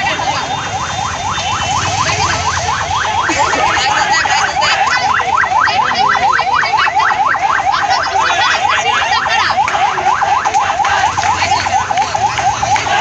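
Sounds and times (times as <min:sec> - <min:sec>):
ambulance siren yelp: 0:00.0 - 0:13.0.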